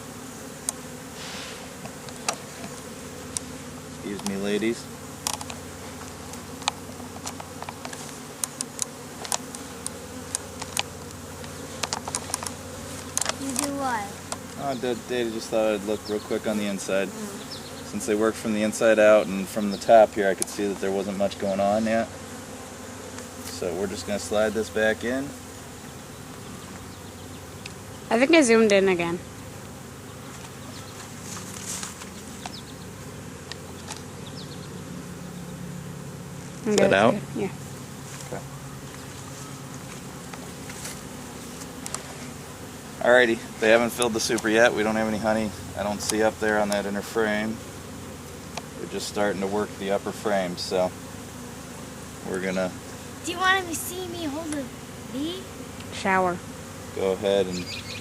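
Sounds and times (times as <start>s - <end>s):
honeybees humming: 0.0s - 58.0s.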